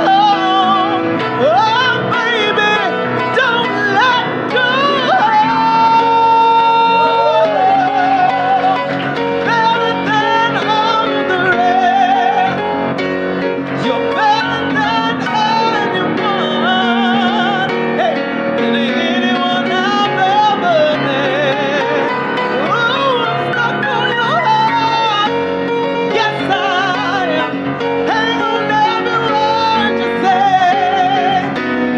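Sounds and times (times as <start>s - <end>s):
man singing with vibrato: 0.0s - 31.9s
piano accompaniment: 0.0s - 31.9s.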